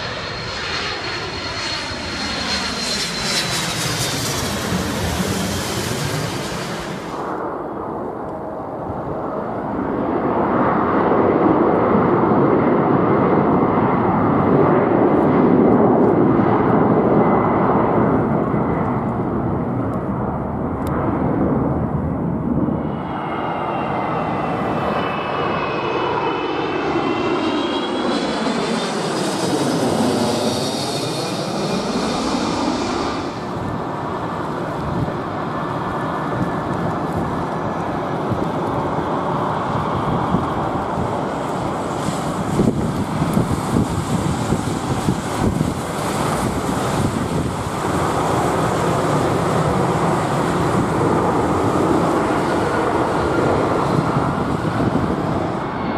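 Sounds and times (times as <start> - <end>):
jet engines roaring: 0.0 - 55.9
plane passing overhead whooshing: 0.0 - 55.9.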